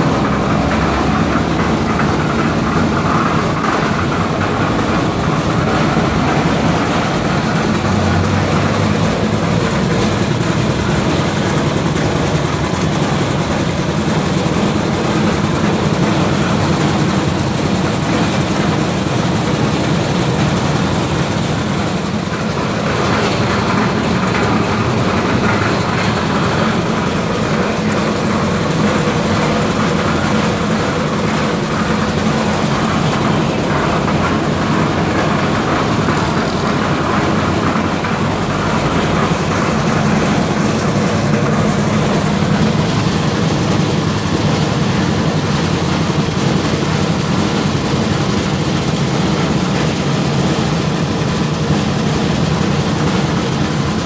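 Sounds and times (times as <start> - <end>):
small engine running steadily: 0.0 - 54.0.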